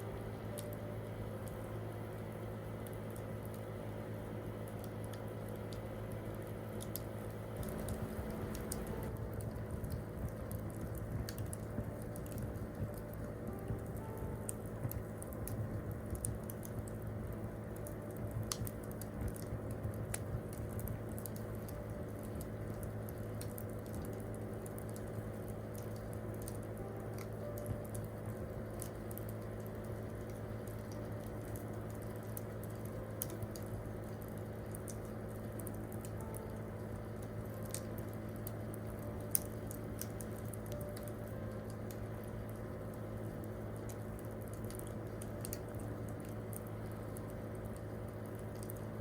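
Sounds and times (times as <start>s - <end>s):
campfire crackling and popping: 0.0s - 49.0s
steady low hum: 0.0s - 49.0s.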